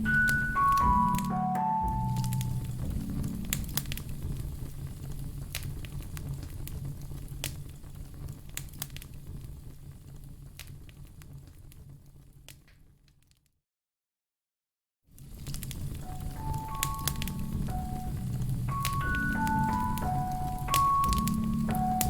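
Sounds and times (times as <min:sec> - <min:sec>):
sharp pops of fire: 0:00.0 - 0:13.3, 0:15.2 - 0:22.0
wood fire crackling: 0:00.0 - 0:13.4, 0:15.1 - 0:22.0.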